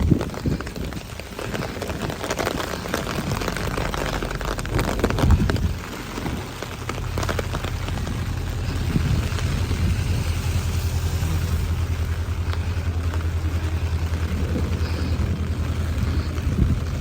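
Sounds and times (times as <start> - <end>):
low steady rumble: 0.0 - 17.0
rain pattering on surfaces: 0.0 - 17.0.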